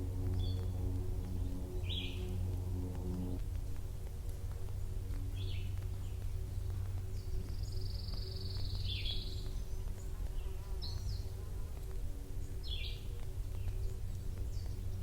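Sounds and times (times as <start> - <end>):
faint buzzing hum: 0.0 - 15.0
low rumble: 0.0 - 15.0.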